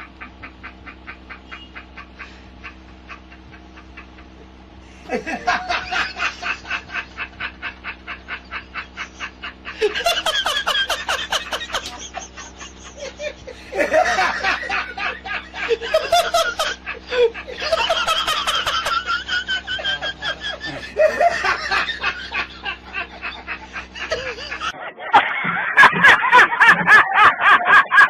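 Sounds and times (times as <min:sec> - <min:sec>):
faint steady hum: 0:00.0 - 0:28.0
person laughing: 0:00.0 - 0:28.0.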